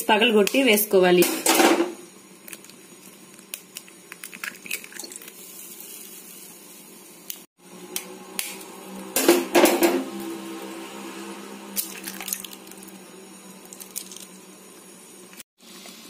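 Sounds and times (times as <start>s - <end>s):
eggs sizzling in oil: 2.0s - 16.0s.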